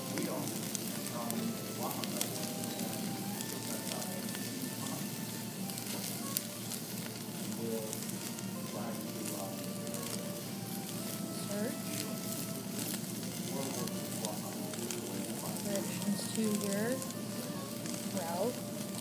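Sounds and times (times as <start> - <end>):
sushi sizzling on hot platter: 0.0 - 19.0.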